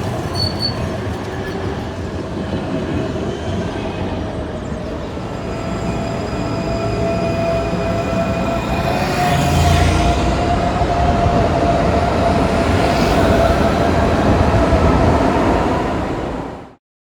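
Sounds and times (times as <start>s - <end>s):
tram motor whine: 0.0s - 16.6s
tram rumbling: 0.0s - 16.8s.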